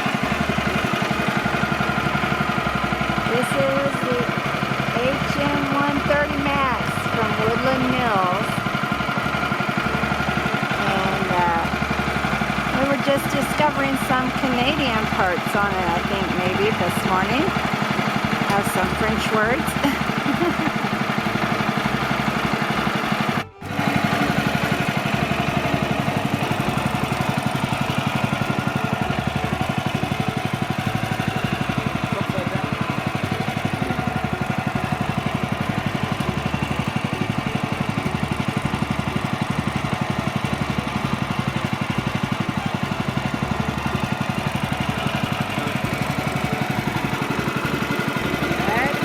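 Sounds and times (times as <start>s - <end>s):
small petrol engine idling: 0.0s - 49.0s.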